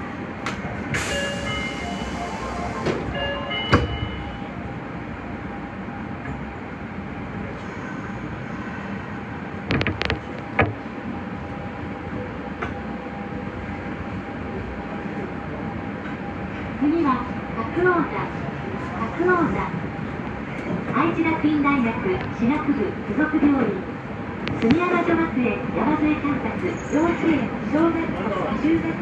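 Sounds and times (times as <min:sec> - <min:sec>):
train motors and wheels rumbling: 0:00.0 - 0:29.0.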